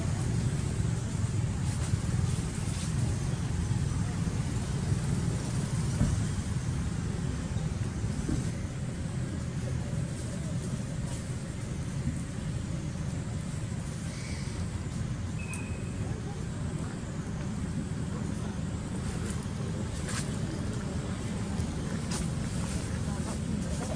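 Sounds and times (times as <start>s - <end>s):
low background rumble: 0.0s - 23.9s.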